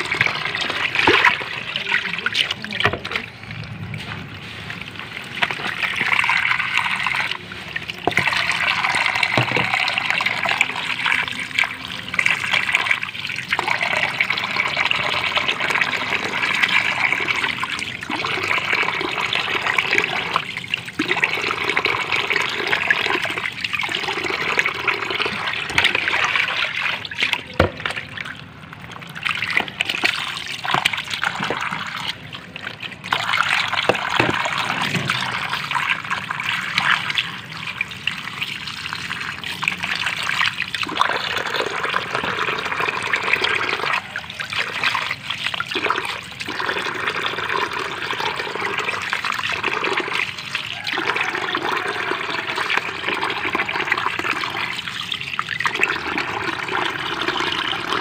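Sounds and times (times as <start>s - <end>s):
water pouring into basin: 0.0s - 58.0s
water splashing in plastic basin: 0.0s - 58.0s.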